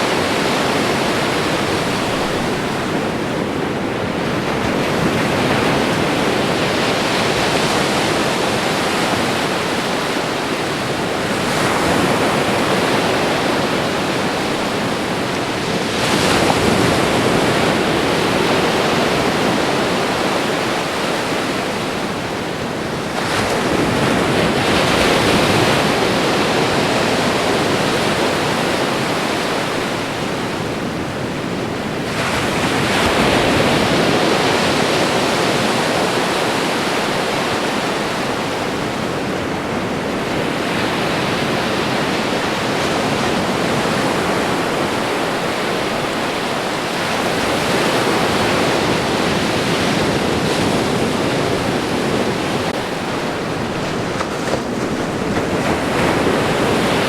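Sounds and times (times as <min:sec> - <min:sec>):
ocean waves on shore: 0:00.0 - 0:57.0.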